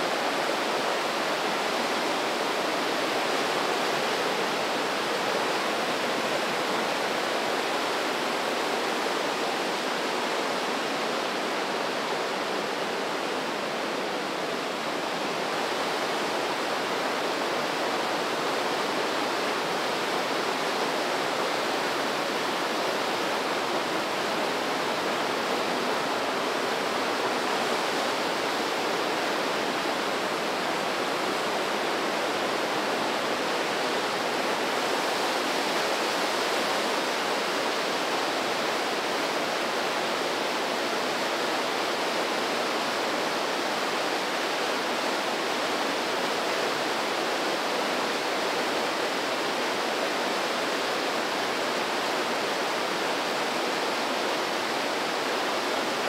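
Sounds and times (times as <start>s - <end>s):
river water roaring: 0.0s - 56.0s.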